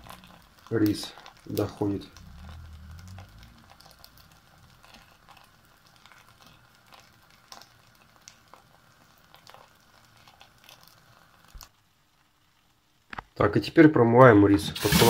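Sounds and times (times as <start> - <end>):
rice sizzling in a pot: 0.0 - 15.0.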